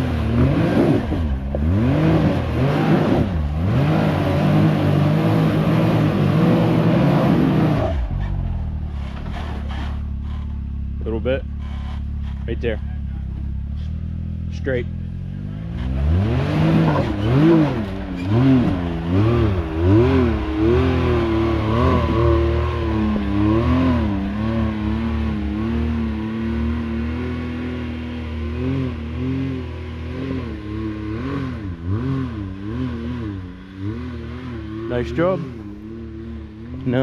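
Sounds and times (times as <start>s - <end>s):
side-by-side engine revving: 0.0s - 37.0s.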